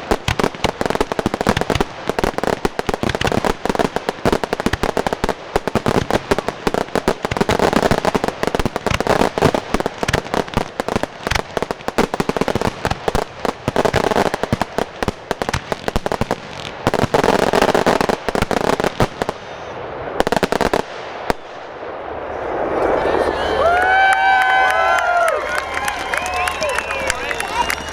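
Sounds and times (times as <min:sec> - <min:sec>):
fireworks bangs and crackle: 0:00.0 - 0:27.9.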